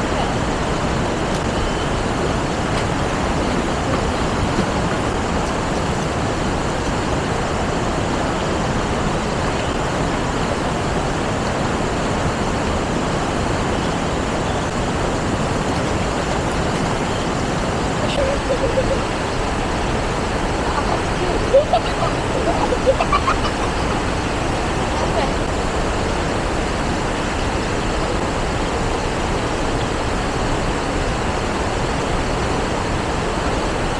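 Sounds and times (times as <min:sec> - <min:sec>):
river rushing over rapids: 0:00.0 - 0:33.9.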